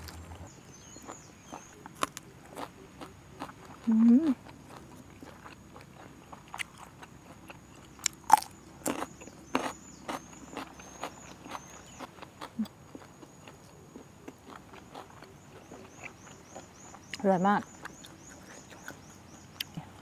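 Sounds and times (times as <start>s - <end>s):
crunching raw vegetables: 0.0s - 19.8s.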